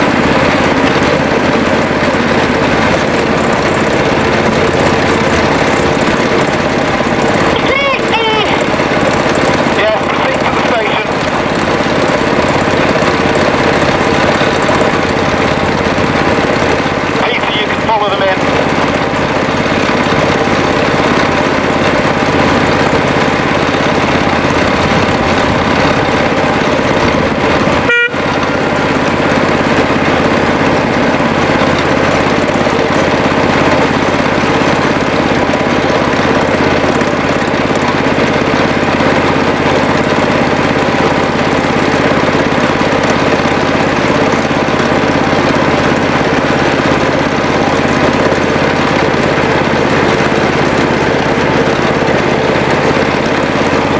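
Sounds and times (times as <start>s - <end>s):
locomotive engine droning: 0.0s - 53.9s.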